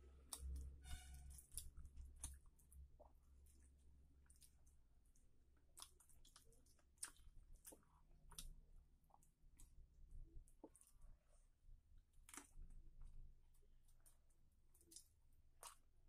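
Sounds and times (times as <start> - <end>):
fingers mixing food wet squishes: 0.0 - 16.0.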